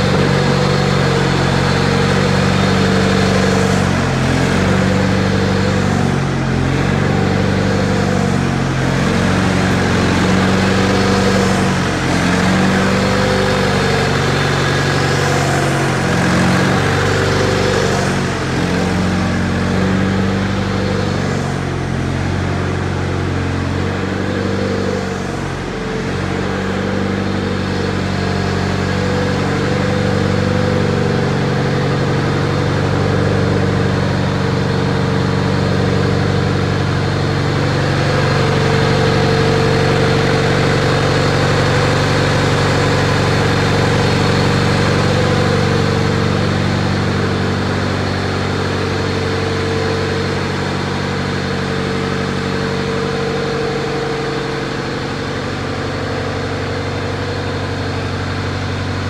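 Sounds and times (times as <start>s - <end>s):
engine idling with low hum: 0.0s - 59.0s
higher engine tone: 0.0s - 59.0s.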